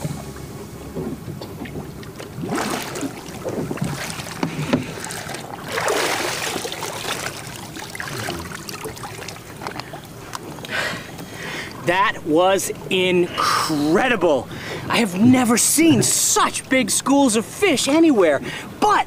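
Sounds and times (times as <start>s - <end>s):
water splashing against a boat: 0.0s - 19.0s.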